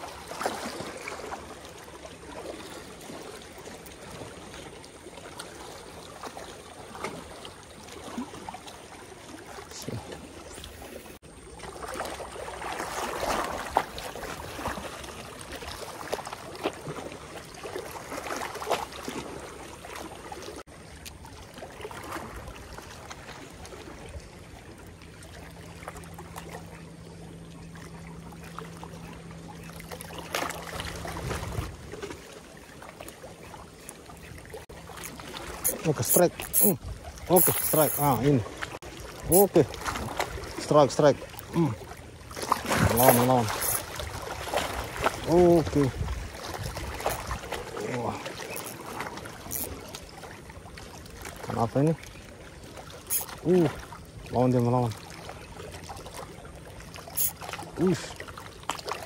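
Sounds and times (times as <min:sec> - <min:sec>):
waves lapping against rocks: 0:00.0 - 0:59.0.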